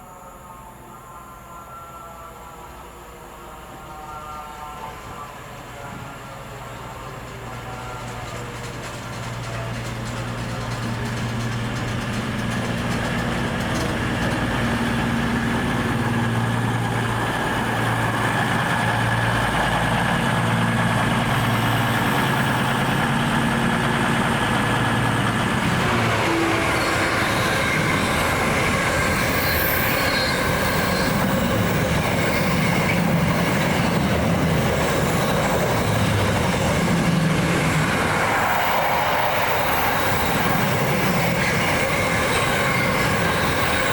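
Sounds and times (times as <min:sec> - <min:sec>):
train running past: 0:00.0 - 0:43.9
wheels squealing: 0:08.1 - 0:43.9.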